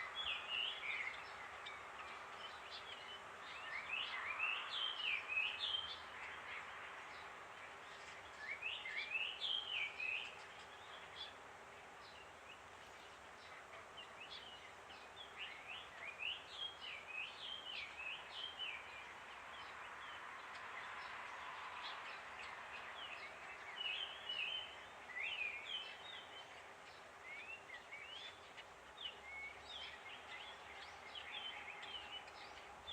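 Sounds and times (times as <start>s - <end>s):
outdoor background hiss: 0.0s - 32.9s
songbirds twittering: 0.0s - 32.9s.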